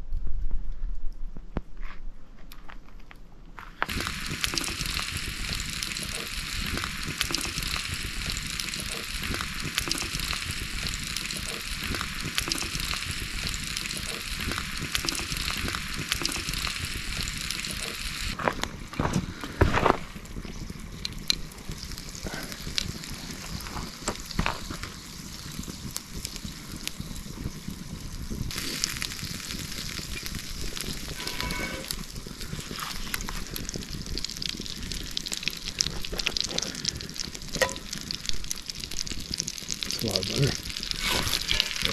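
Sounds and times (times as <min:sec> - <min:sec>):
sizzling over campfire: 0:03.7 - 0:41.9
butter sizzling in skillet: 0:03.8 - 0:41.9.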